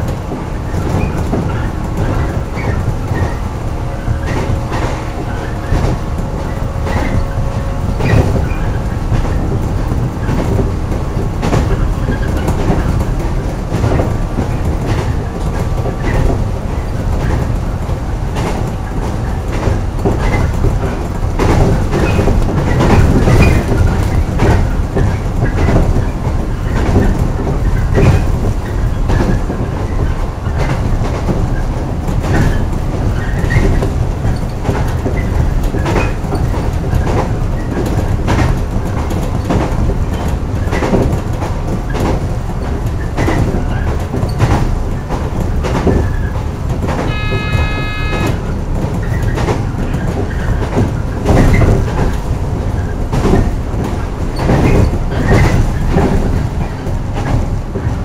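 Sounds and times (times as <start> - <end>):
train rumble and track noise: 0.0 - 58.0
wheel clacks over rail joints: 0.0 - 58.0.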